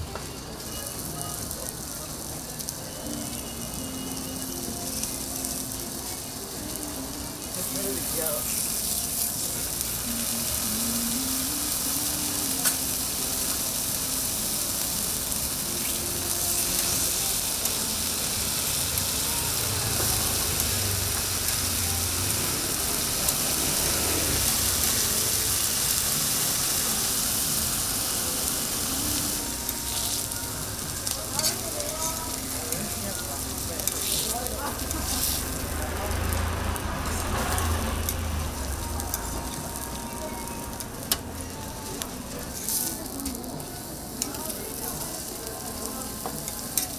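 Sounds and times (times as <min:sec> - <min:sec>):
food sizzling on griddle: 0:00.0 - 0:46.9.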